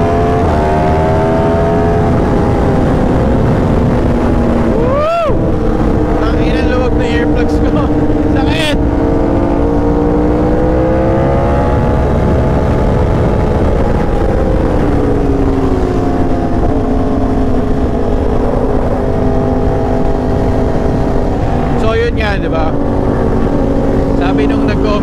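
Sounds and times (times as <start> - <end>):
motorcycle engine running: 0.0 - 25.0
wind rush: 0.0 - 25.0.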